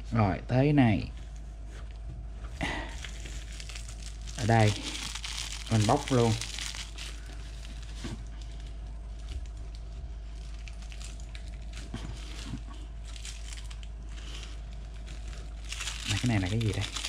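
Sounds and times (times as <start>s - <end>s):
faint steady hum: 0.0s - 17.0s
packaging rustling: 2.9s - 17.0s.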